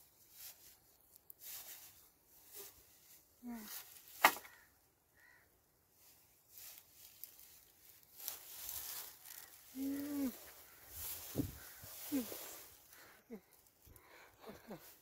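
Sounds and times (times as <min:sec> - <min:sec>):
footsteps in dry grass: 0:00.0 - 0:15.0.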